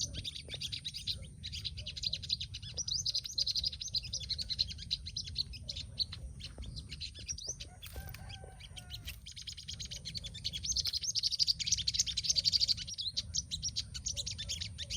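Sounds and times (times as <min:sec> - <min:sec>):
sunbirds twittering: 0:00.0 - 0:14.9.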